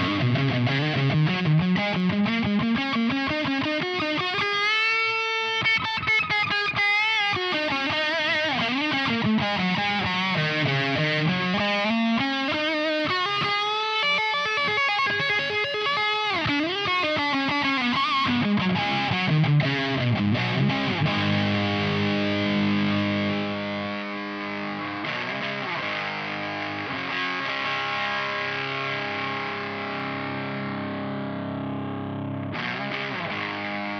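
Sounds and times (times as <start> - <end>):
distorted electric guitar: 0.0 - 33.9.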